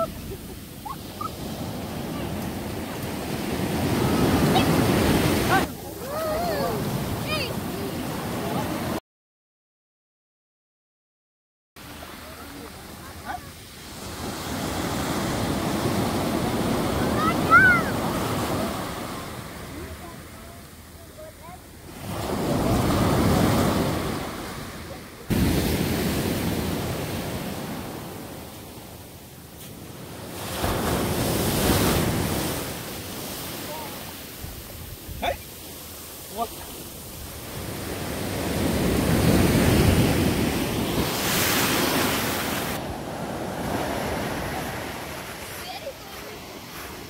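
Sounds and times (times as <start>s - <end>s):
surf washing onto beach: 0.0s - 9.0s, 11.8s - 47.0s.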